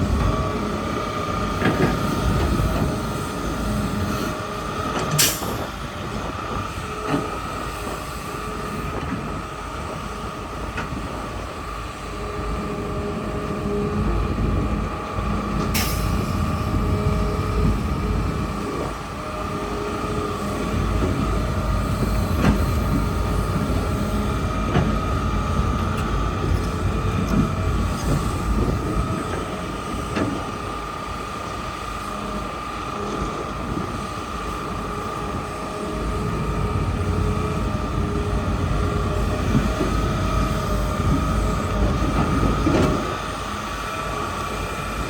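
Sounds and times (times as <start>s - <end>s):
excavator engine rumble and whine: 0.0s - 45.0s.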